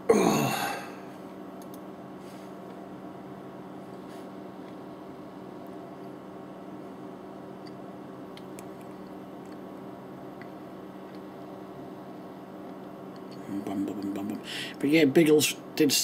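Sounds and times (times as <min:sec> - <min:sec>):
low indoor room hum: 0:00.0 - 0:16.0.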